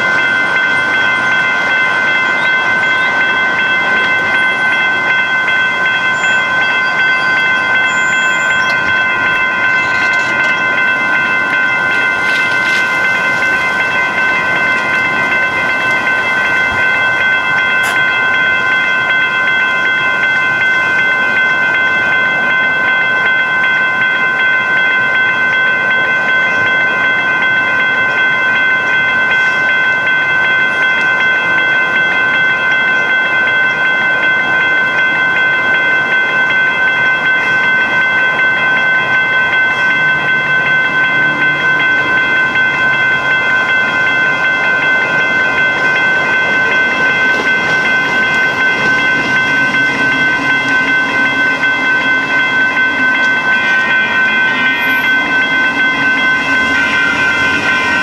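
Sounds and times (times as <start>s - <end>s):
railroad crossing bell ringing: 0.0s - 58.0s.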